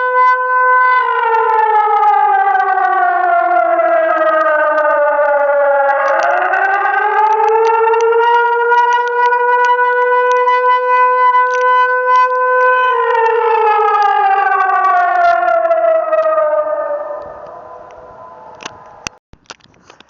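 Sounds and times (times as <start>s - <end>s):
warning siren: 0.0s - 19.2s.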